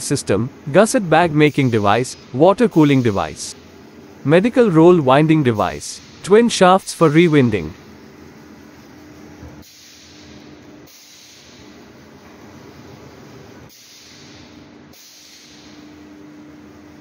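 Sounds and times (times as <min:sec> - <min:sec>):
machinery hissing and humming: 0:00.0 - 0:17.0.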